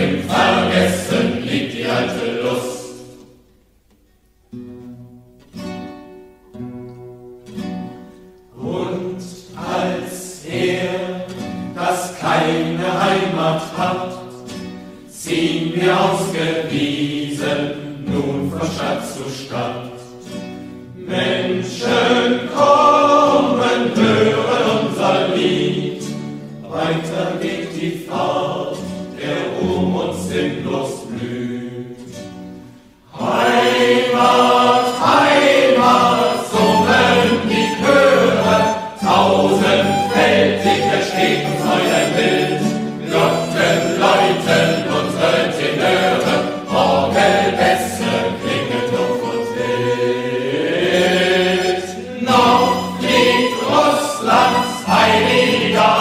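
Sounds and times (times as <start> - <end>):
choir singing: 0.0 - 3.3, 8.5 - 56.0.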